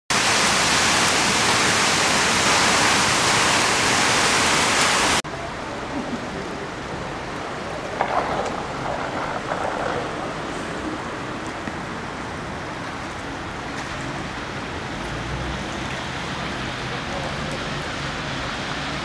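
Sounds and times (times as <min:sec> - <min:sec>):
heavy rain: 0:00.1 - 0:19.0.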